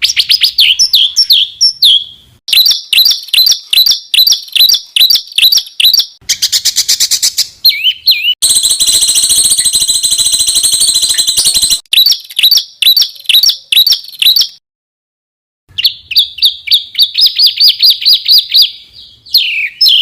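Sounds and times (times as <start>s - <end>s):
songbird song with buzzy trill: 0.0s - 14.6s, 15.7s - 20.0s.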